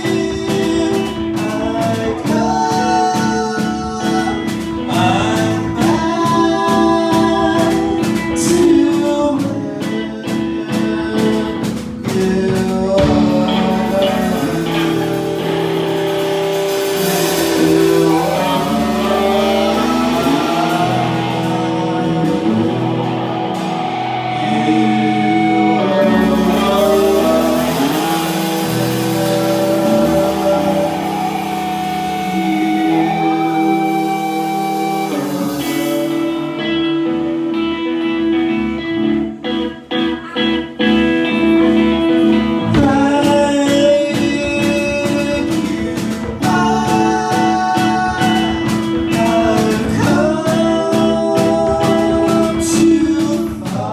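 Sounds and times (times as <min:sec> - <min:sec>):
person singing: 0:00.0 - 0:53.9
rock band playing live: 0:00.0 - 0:53.9.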